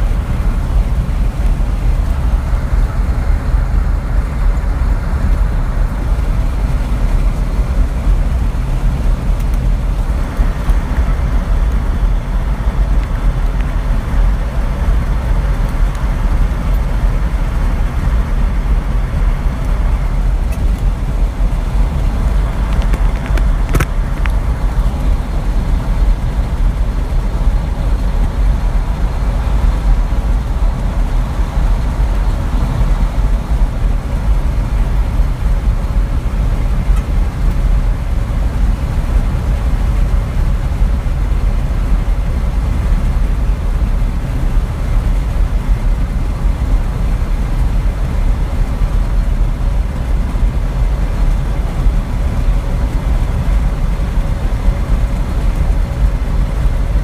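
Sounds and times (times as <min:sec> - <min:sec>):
truck engine and road noise: 0:00.0 - 0:57.0.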